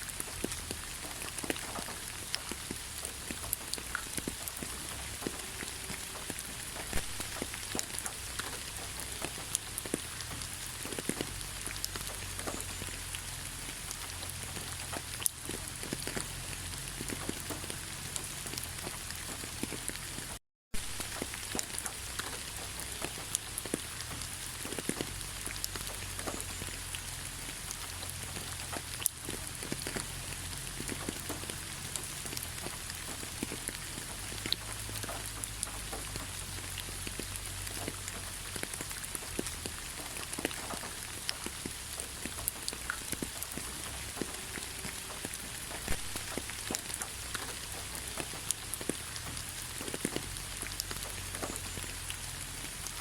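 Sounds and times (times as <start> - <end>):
rain falling in forest: 0.0 - 53.0
raindrops ticking close by: 0.0 - 53.0.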